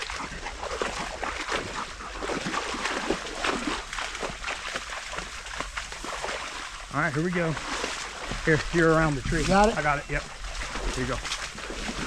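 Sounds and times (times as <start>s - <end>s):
footsteps splashing through water: 0.0s - 12.0s.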